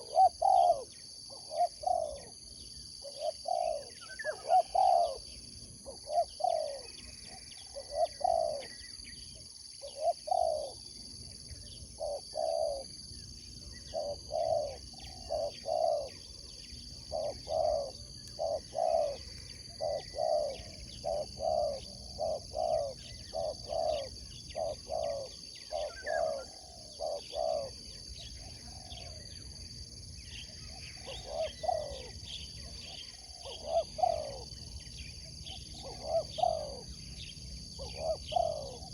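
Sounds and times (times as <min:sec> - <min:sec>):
doves cooing: 0:00.0 - 0:08.9, 0:09.8 - 0:11.0, 0:11.9 - 0:29.5, 0:30.5 - 0:38.9.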